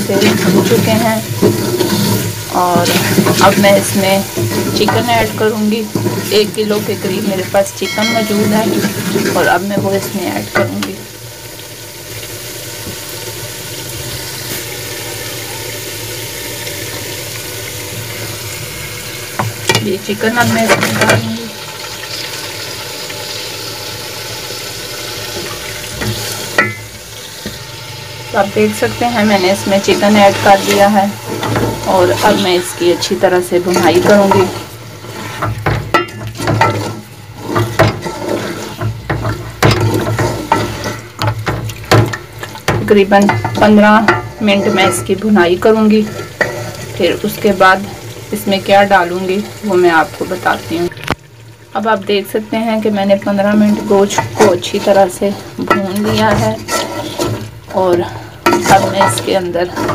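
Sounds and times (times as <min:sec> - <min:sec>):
spices and oil sizzling in pot: 0:00.0 - 0:59.9.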